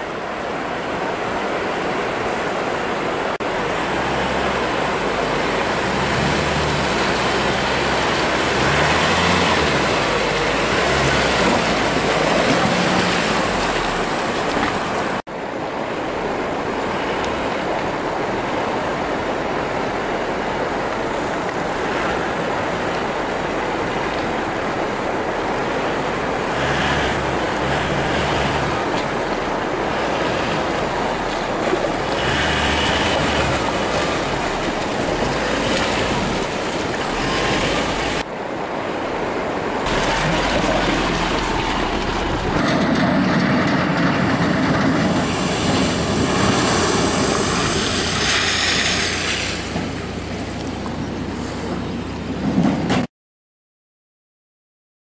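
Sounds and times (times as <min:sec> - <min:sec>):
flowing water rushing: 0:00.0 - 0:52.4.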